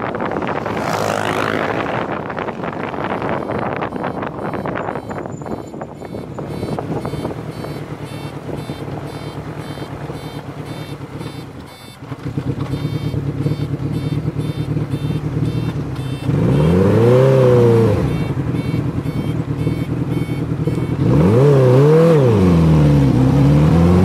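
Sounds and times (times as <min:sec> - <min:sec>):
engine note rising and falling: 0:00.0 - 0:24.0
motorcycle engine running: 0:00.0 - 0:24.0.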